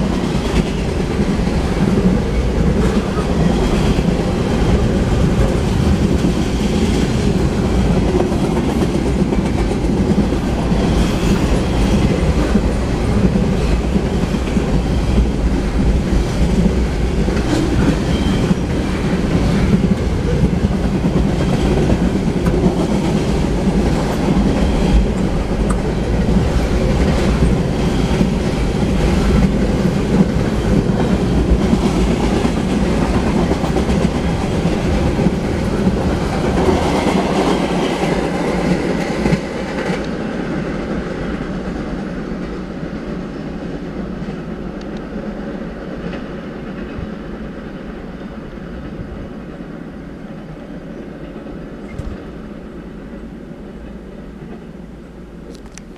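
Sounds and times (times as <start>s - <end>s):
freight train cars rolling: 0.0s - 55.9s.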